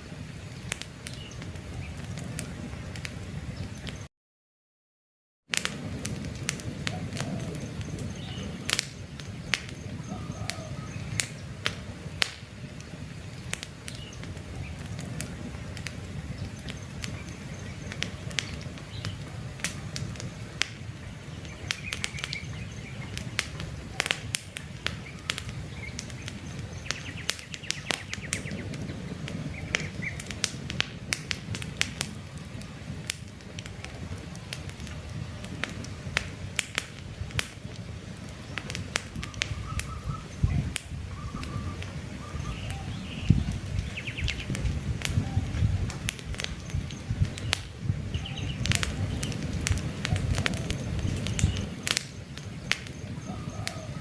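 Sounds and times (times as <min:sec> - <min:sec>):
birds chirping: 0:00.0 - 0:02.9, 0:06.7 - 0:30.7, 0:31.4 - 0:36.4, 0:37.1 - 0:54.0
campfire crackling: 0:00.0 - 0:04.1, 0:05.5 - 0:54.0.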